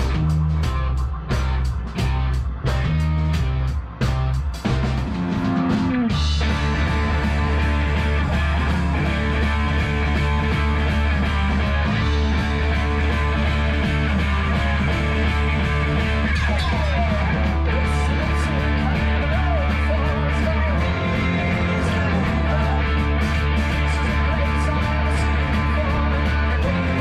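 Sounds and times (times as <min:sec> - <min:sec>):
distorted electric guitars: 0:00.0 - 0:27.0
drums: 0:00.0 - 0:27.0.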